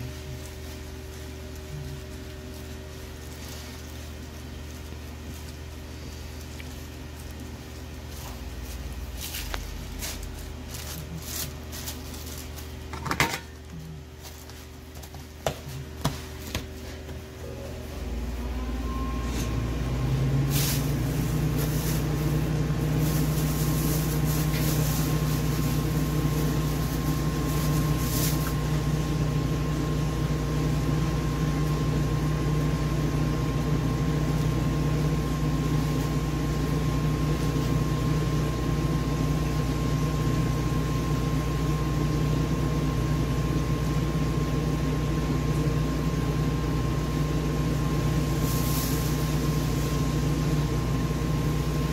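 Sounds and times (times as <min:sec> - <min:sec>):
machine humming with high whine: 0:00.0 - 0:51.9.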